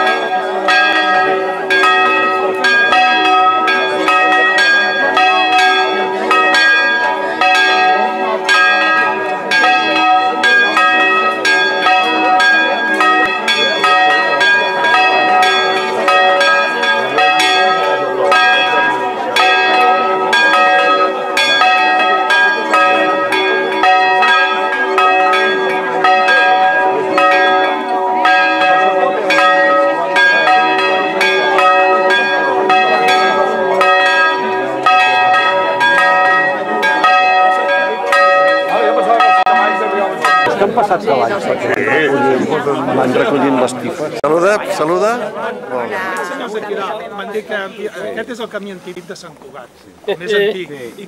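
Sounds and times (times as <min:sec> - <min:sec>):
church bells ringing: 0:00.0 - 0:45.3.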